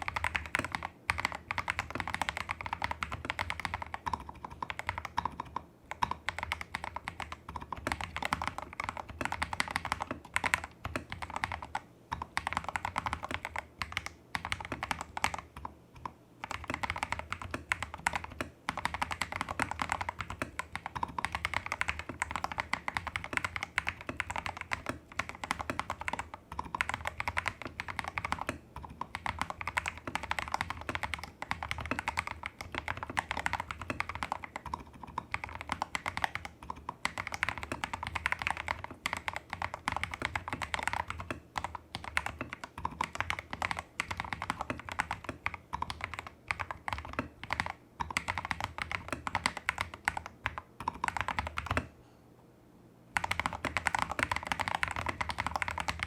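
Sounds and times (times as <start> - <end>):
fast mechanical keyboard typing: 0.0 - 51.9, 53.2 - 56.0.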